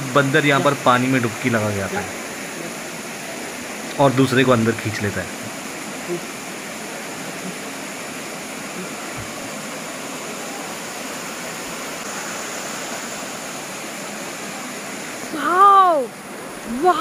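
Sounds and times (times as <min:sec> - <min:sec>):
water running over weir: 0:00.0 - 0:17.0.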